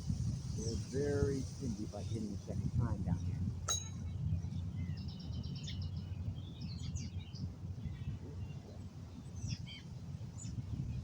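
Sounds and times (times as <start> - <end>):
wind rumble on microphone: 0.0 - 11.0
small birds chirping: 0.5 - 11.0.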